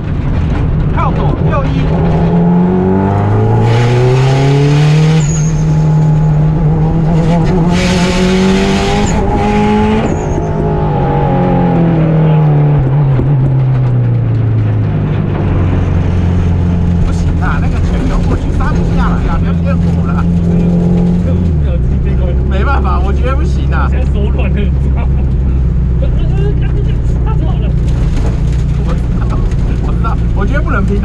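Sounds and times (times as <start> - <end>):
rally car engine running hard: 0.0 - 31.0.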